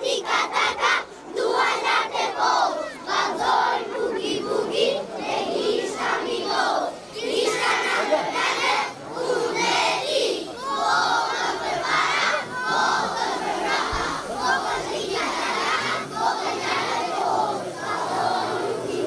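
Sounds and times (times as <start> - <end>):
children shouting together: 0.0 - 19.0.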